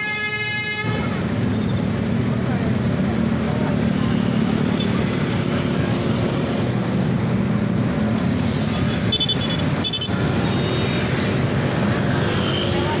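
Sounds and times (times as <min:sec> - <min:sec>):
roadside traffic: 0:00.0 - 0:13.0
heavy vehicle engine running: 0:00.9 - 0:13.0.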